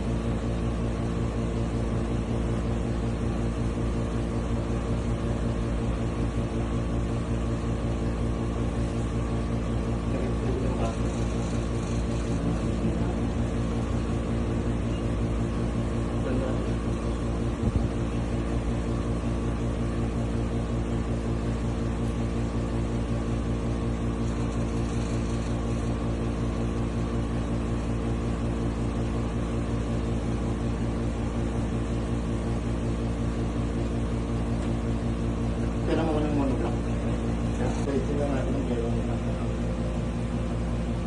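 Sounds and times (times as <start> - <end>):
machine hum: 0.0 - 41.0.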